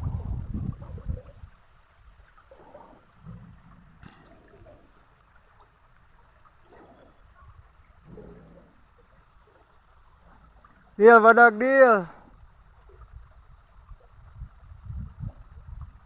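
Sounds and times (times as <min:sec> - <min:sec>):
river water running: 0:00.0 - 0:16.0.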